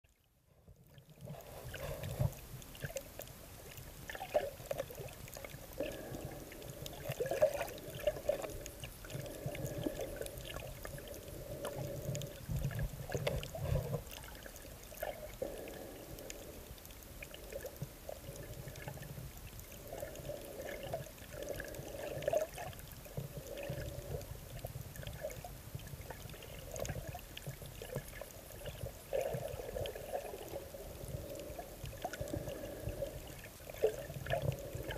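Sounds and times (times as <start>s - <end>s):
water swishing and bubbling: 0.1s - 34.9s
sharp clicks underwater: 0.9s - 34.9s.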